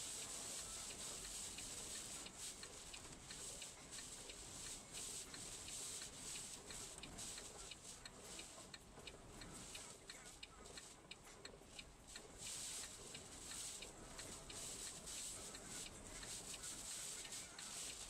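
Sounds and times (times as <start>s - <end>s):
rapid high ticking: 0.0s - 18.0s
soft hiss: 0.0s - 18.0s.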